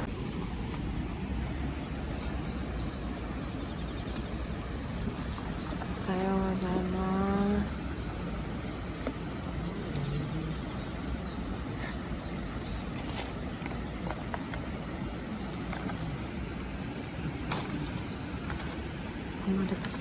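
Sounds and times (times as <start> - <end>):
outdoor background rumble: 0.0 - 20.0
small bird chirping: 2.2 - 20.0.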